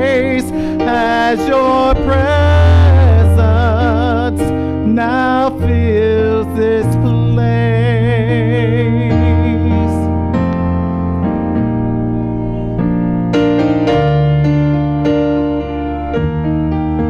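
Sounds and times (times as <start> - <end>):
electric piano chords: 0.0 - 17.0.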